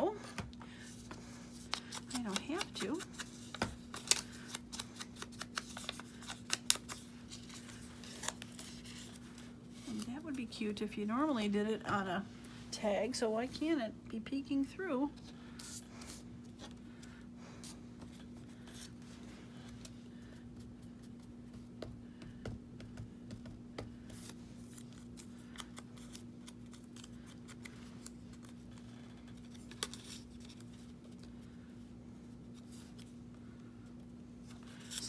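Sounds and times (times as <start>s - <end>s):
faint hum: 0.0s - 35.0s.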